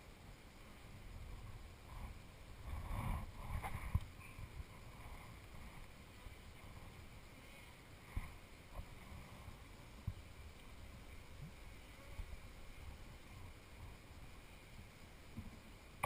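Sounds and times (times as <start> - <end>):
low wind rumble on microphone: 0.0 - 16.0.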